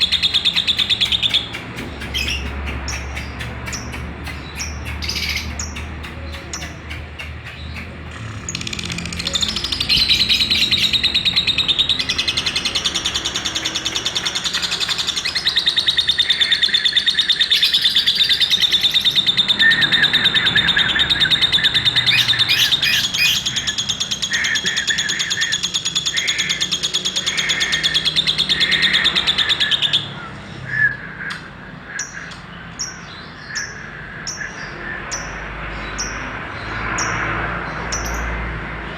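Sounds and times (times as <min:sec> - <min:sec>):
bird rapid high trilling chatter: 0:00.0 - 0:36.2.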